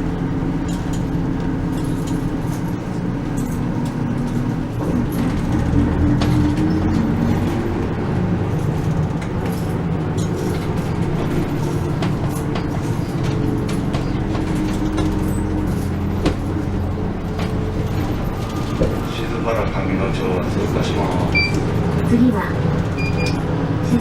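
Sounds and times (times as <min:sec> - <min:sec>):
bus engine drone: 0:00.0 - 0:24.0
road noise: 0:00.0 - 0:24.0.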